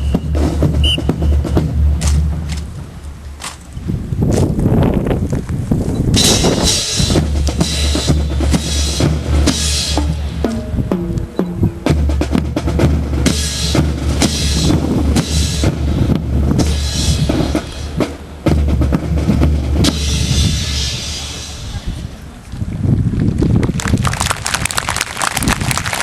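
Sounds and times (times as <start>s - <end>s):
snare and bass drums: 0.0s - 5.2s, 5.9s - 22.1s.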